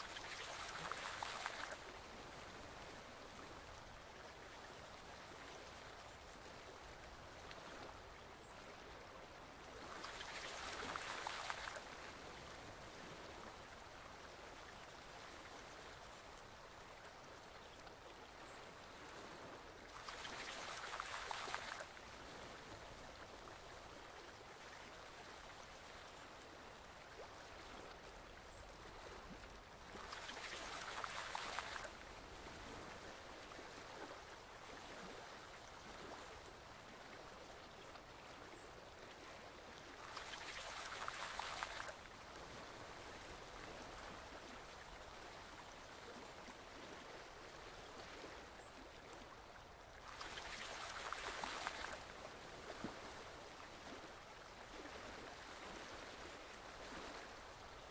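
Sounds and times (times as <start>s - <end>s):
forest stream flowing: 0.0s - 57.9s.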